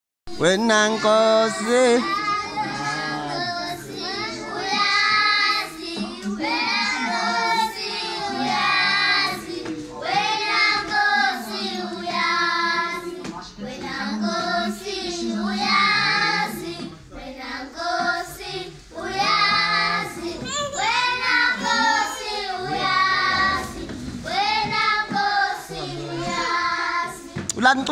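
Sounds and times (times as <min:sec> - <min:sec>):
children singing gospel song: 0:00.3 - 0:27.9.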